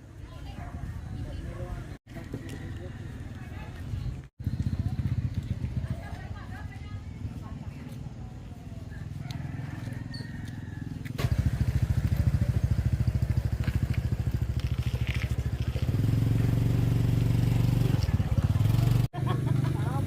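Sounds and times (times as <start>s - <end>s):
small motorcycle engine running: 3.2s - 8.2s, 8.8s - 20.0s.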